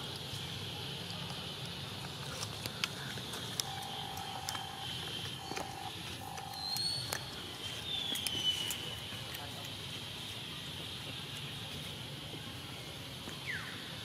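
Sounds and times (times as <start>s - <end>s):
monkey chewing food: 0.0s - 13.0s
steady high hiss: 0.0s - 14.0s.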